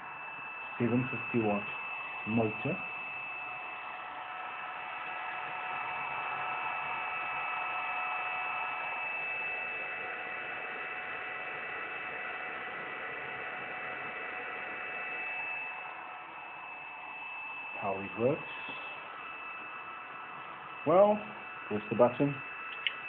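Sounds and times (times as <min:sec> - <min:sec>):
electric motor whirring hum: 0:00.0 - 0:23.0
high whining tones: 0:00.0 - 0:23.0.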